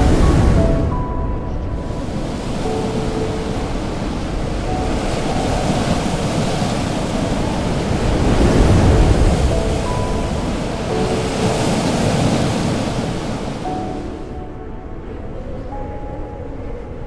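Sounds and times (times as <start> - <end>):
ocean surf breaking: 0.0 - 14.6
faint held music notes: 0.0 - 17.0.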